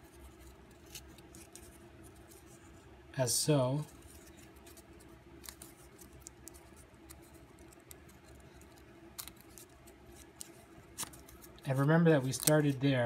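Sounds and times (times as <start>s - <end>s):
paper crackling and creasing: 0.0s - 2.8s, 3.7s - 12.9s
low steady hum: 0.0s - 13.0s.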